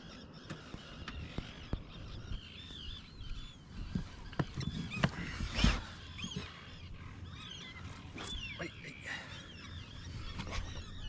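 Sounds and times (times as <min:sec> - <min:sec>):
bird chirping calls: 0:00.0 - 0:11.0.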